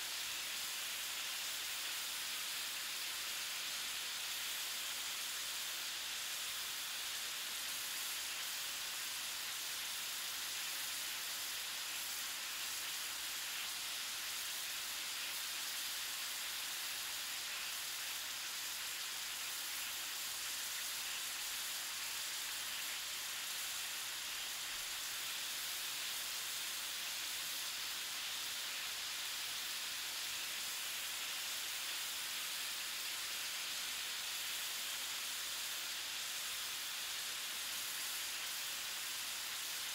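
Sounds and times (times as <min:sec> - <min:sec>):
food sizzling: 0:00.0 - 0:39.9.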